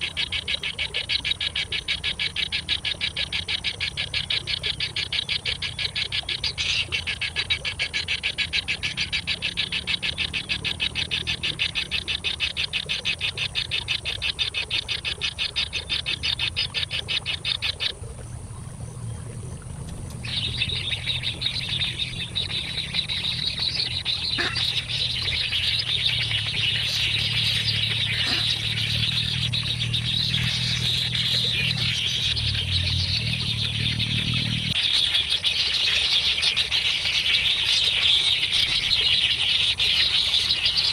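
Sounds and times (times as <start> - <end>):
nestling birds chirping: 4.0 - 40.9.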